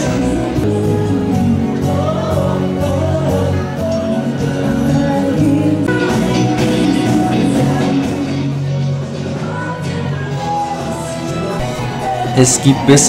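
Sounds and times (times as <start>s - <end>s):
woman singing: 0.0s - 12.7s
live band playing: 0.0s - 13.0s.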